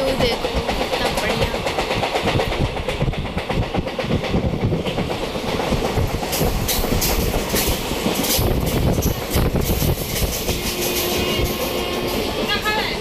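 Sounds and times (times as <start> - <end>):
sharp clacks and rattles: 0.0 - 12.6
train wheels rumbling on rails: 0.0 - 13.0
wind rush: 0.0 - 13.0.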